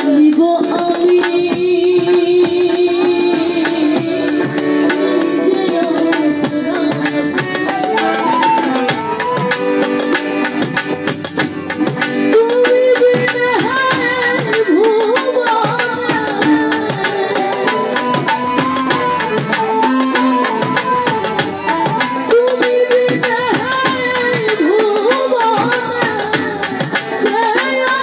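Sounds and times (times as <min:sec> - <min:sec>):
woman singing: 0:00.0 - 0:08.8, 0:12.3 - 0:28.0
hand drums fast rhythm: 0:00.0 - 0:28.0
sustained melodic instruments: 0:00.2 - 0:23.9.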